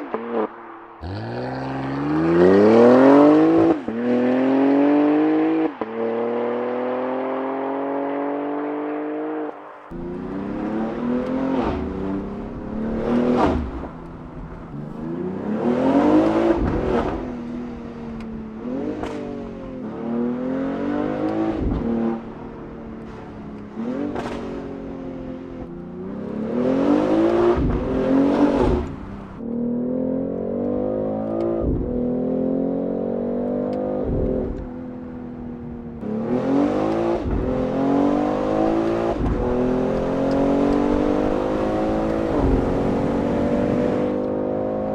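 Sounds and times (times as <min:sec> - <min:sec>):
exhaust crack on gear shifts: 0:00.0 - 0:06.0, 0:09.5 - 0:44.4
car engine accelerating: 0:00.0 - 0:44.9.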